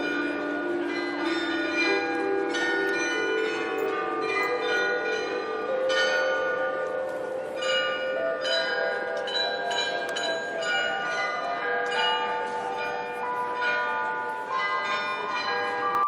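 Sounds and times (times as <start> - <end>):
tuned bells playing a tune: 0.0 - 16.0.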